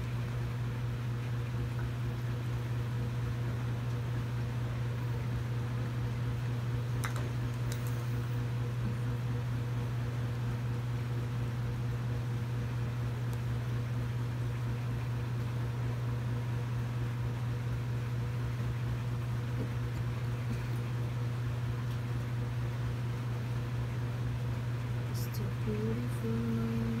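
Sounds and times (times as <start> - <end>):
electric fan humming: 0.0 - 27.0.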